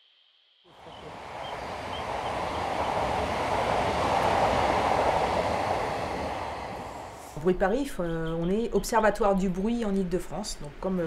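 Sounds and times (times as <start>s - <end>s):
train passing rumble: 0.7s - 9.6s.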